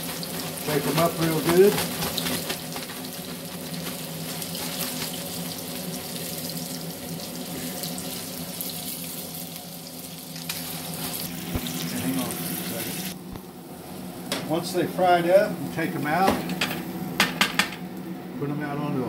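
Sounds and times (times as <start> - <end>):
fish deep-frying sizzle: 0.0 - 17.7
kitchen exhaust fan hum: 0.0 - 19.0.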